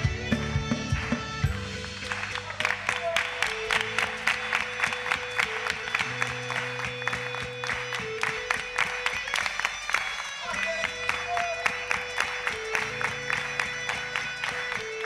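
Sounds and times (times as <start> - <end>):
hand clapping: 0.0 - 15.0
worship band music: 0.0 - 15.0.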